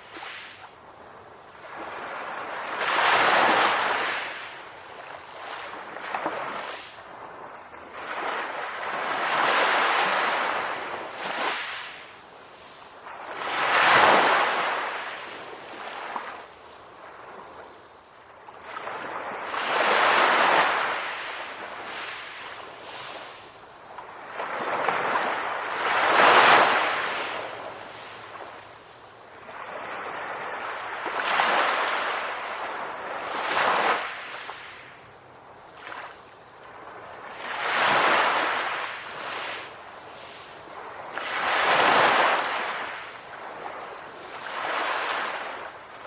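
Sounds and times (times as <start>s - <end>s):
ocean waves breaking on a beach: 0.0s - 46.0s.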